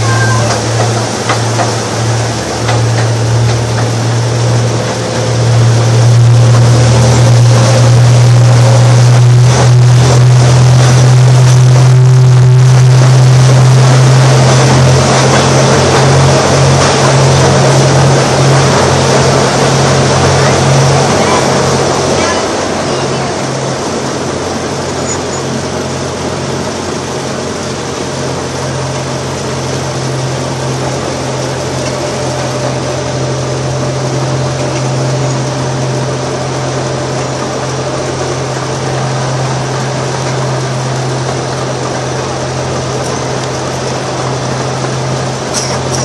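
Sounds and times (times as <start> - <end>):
ride train low hum: 0.0 - 46.0
rushing noise: 0.0 - 46.0.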